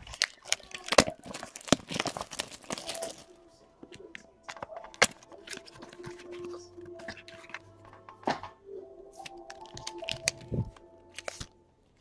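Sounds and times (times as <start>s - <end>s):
card packaging crinkling: 0.0s - 8.4s, 9.1s - 12.0s.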